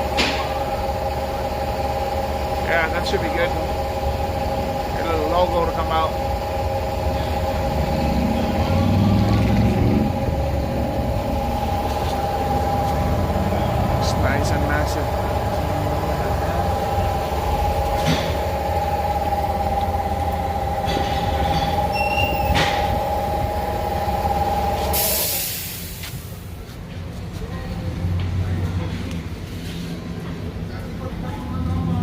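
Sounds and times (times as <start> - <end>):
constant high hum: 0.0 - 32.0
low mechanical rumble: 0.0 - 32.0.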